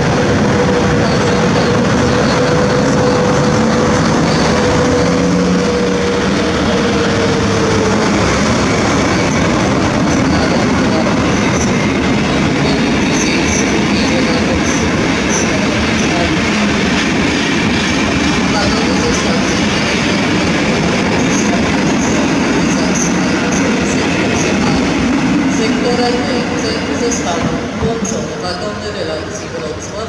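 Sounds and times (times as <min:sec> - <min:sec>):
train rail rumble: 0:00.0 - 0:30.0.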